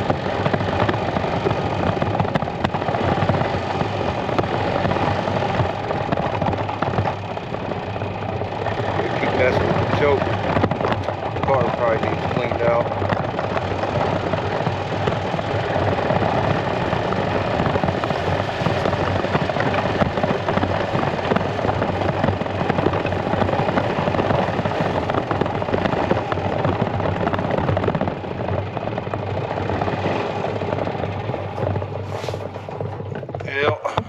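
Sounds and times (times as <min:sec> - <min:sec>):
dense rapid rattle: 0:00.0 - 0:34.0
golf cart engine running: 0:00.0 - 0:34.0.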